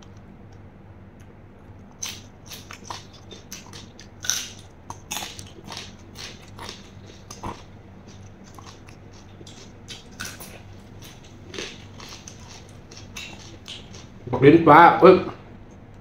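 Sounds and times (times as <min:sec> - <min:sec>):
faint low hum: 0:00.0 - 0:16.0
wet chewing and crunching: 0:01.2 - 0:14.3.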